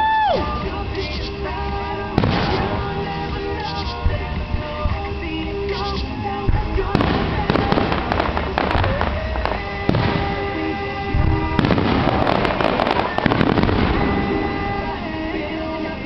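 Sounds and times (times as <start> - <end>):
music: 0.0 - 16.0
fireworks pops and crackles: 0.1 - 16.0.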